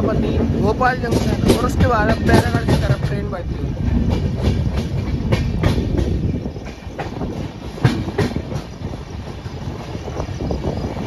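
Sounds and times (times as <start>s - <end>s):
train rumble: 0.0s - 11.0s
wheels clicking over rail joints: 0.0s - 11.0s
wind noise: 0.0s - 11.0s.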